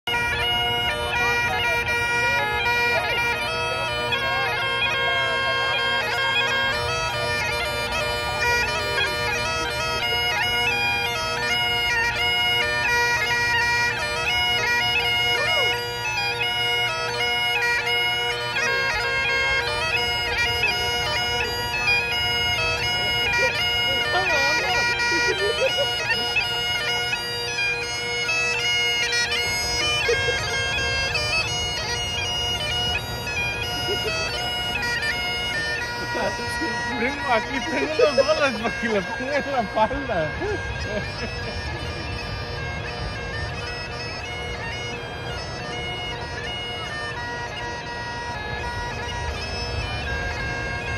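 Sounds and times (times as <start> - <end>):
bagpipes playing a tune: 0.0 - 50.9.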